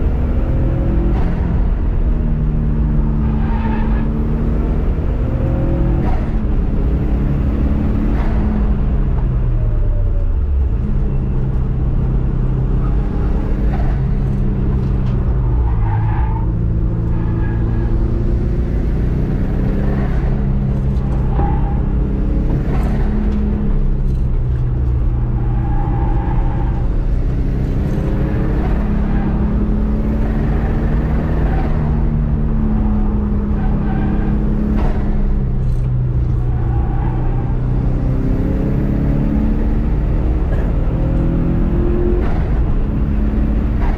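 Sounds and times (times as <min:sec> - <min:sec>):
car engine accelerating and shifting: 0:00.0 - 0:43.9.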